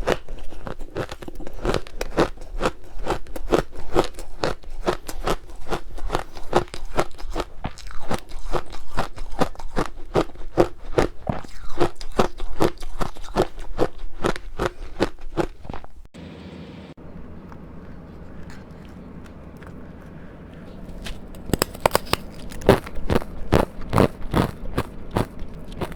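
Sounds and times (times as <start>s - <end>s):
chewing crunchy ice: 0.0s - 16.1s, 17.1s - 25.9s.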